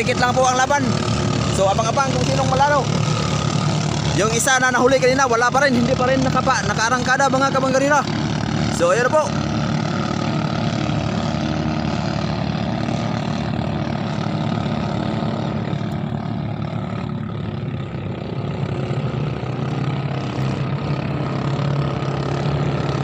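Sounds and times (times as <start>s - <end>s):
boat engines droning: 0.0s - 23.0s.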